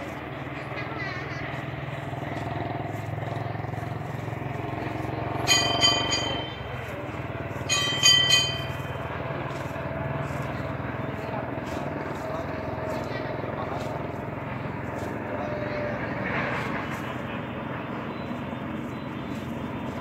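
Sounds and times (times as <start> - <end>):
distant traffic hum: 0.0 - 20.0.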